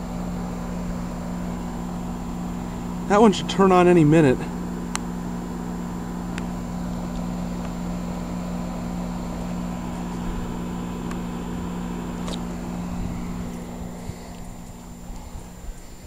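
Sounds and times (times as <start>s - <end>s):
heat pump humming: 0.0s - 16.0s.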